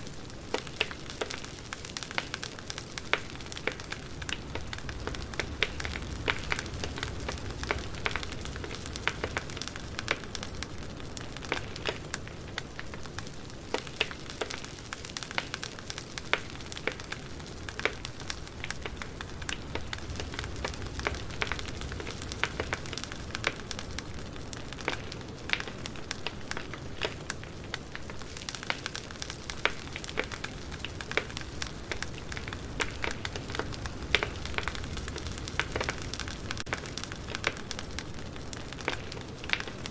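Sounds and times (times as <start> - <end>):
burning wood rushing: 0.0 - 39.9
campfire crackling: 0.0 - 39.9.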